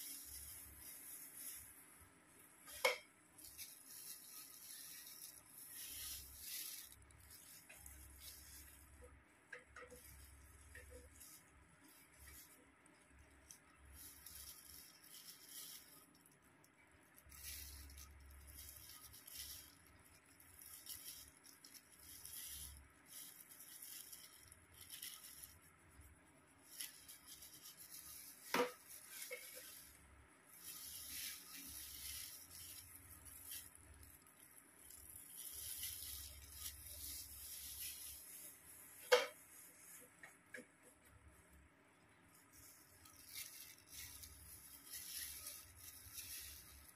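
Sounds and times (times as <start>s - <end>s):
brush rustling through hair: 0.0s - 16.3s, 17.2s - 40.5s, 42.3s - 46.9s.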